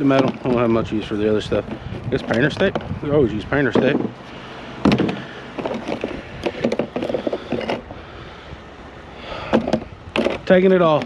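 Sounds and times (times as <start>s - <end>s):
knocks and clunks of items handled: 0.0s - 7.9s, 9.4s - 11.0s.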